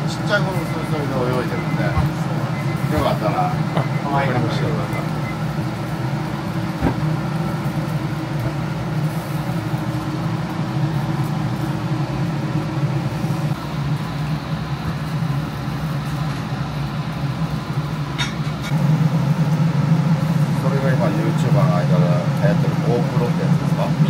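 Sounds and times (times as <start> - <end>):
fish sizzling over charcoal: 0.0 - 24.0
low mechanical hum: 0.0 - 24.0.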